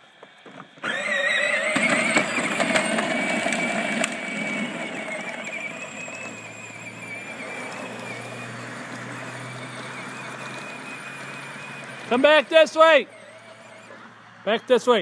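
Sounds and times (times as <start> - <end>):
toy tractor electric motor whining: 0.1 - 15.0
wheels knocking: 0.2 - 14.4.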